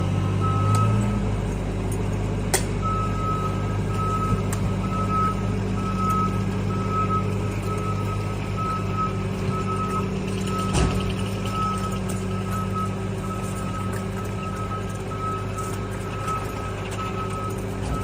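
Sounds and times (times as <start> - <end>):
truck back-up alarm beeping: 0.0 - 1.5, 2.8 - 18.0
truck engine droning: 0.0 - 18.0.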